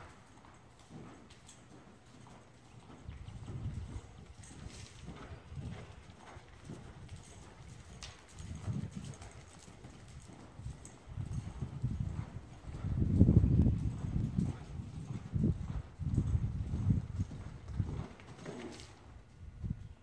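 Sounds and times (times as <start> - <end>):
hoofbeats in sand: 0.0 - 20.0.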